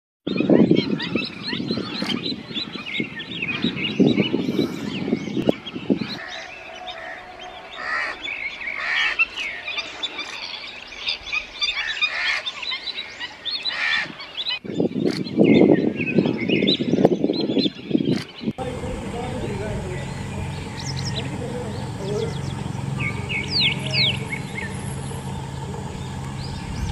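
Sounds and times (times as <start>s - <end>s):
low-pitched bird calling: 0.3s - 26.9s
small birds chirping: 0.3s - 26.9s.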